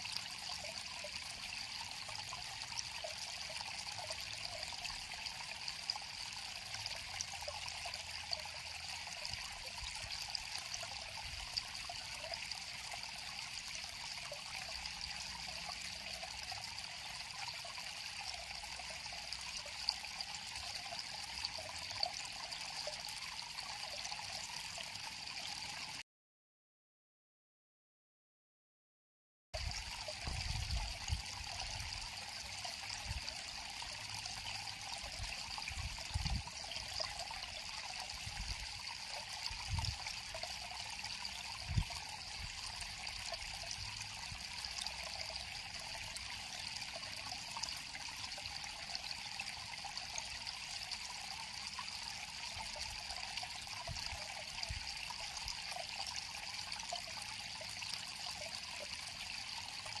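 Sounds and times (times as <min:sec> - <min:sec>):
river water flowing over stones: 0:00.0 - 0:26.0, 0:29.6 - 1:00.0.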